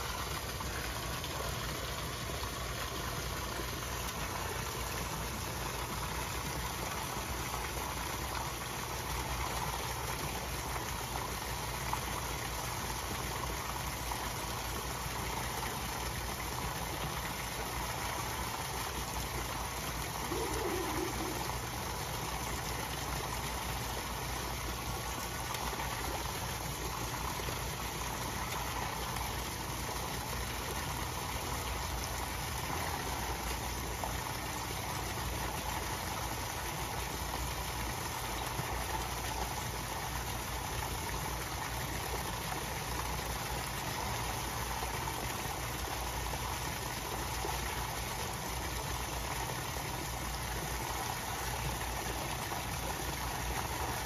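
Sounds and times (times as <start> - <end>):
water pouring into pond: 0.0 - 54.0.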